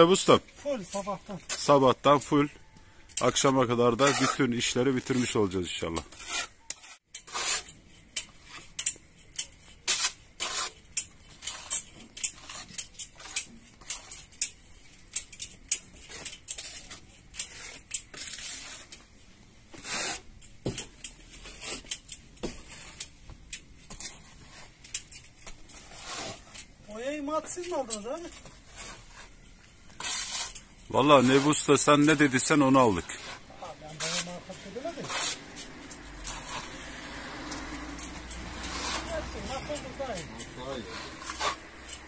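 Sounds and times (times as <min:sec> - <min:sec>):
hand tool scraping and tapping: 0:00.2 - 0:42.0.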